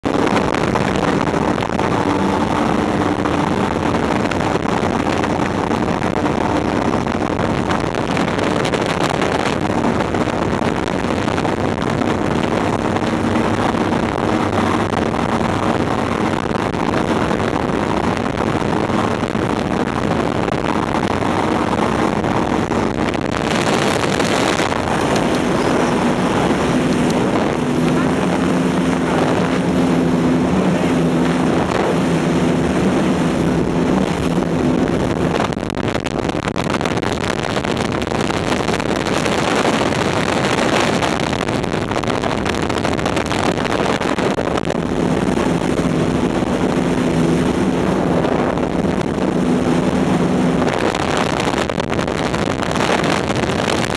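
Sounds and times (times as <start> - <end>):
speedboat engine running: 0.0 - 53.9
water against hull: 0.0 - 53.9
wind on microphone: 0.0 - 53.9.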